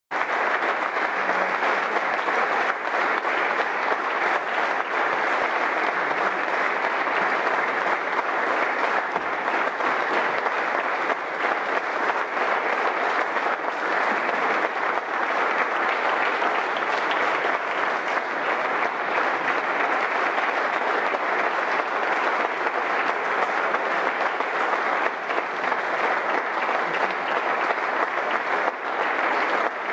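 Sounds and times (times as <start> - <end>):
crowd applauding: 0.1 - 29.9.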